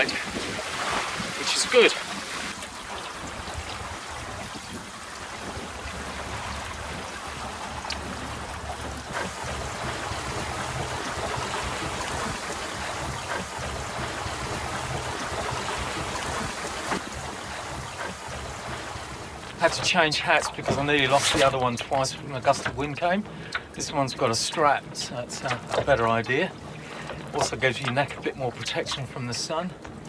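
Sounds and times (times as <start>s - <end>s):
water rushing along boat hull: 0.0s - 30.0s
light knocks from boat: 2.0s - 23.8s, 24.5s - 26.2s, 27.0s - 29.1s.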